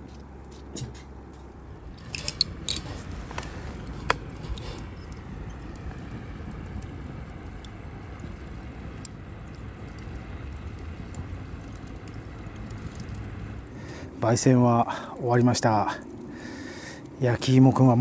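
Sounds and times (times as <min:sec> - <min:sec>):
campfire crackling and popping: 0:00.0 - 0:18.0
steady low rumble: 0:00.0 - 0:18.0.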